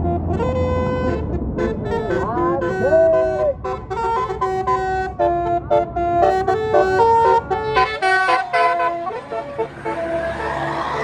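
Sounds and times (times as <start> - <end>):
low engine rumble: 0.0 - 11.0
musical bus horn tune: 0.0 - 11.0.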